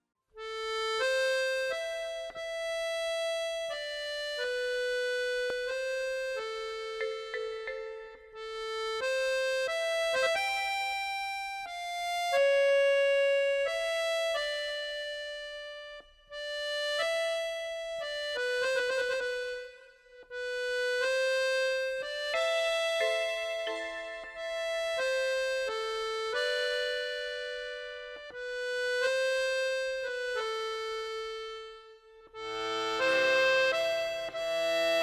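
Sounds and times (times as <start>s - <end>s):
slow keyboard melody: 0.4s - 35.0s.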